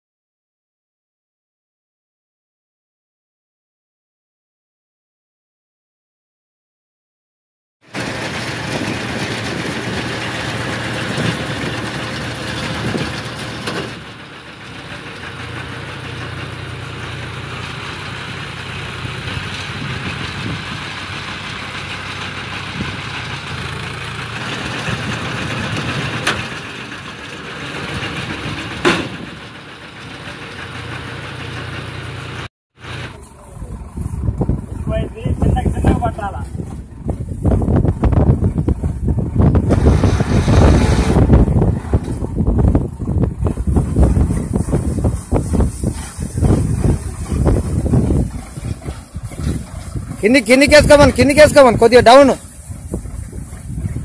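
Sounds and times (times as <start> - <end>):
tractor engine running: 7.9 - 54.0.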